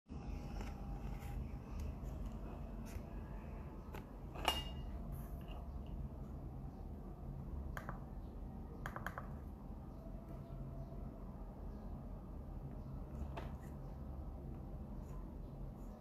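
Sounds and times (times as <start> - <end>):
low room hum: 0.1 - 16.0.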